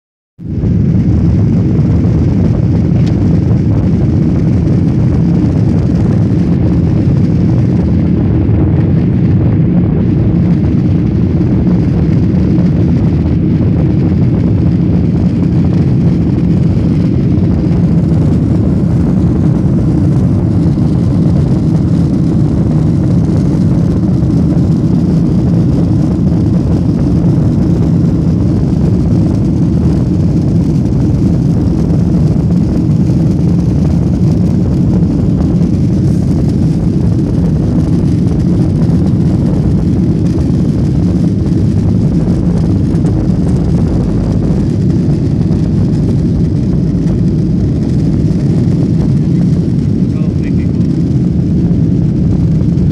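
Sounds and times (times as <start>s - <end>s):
low rumble of jet engines: 0.4s - 52.9s.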